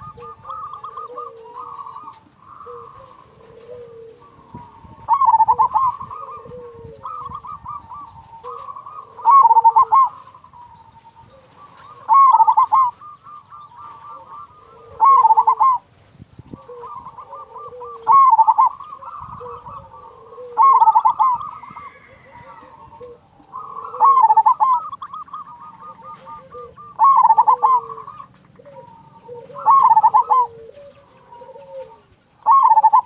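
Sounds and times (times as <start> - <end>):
dove warbling coo: 0.0 - 33.0
softer dove coos: 0.0 - 33.0.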